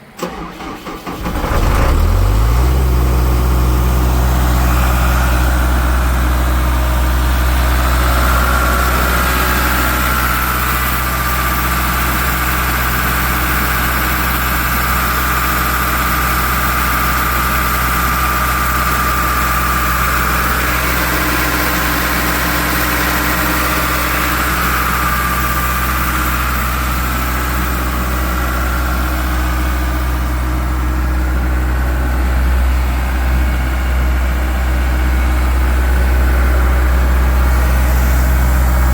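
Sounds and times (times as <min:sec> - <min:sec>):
air compressor diesel engine drone: 0:00.0 - 0:38.9.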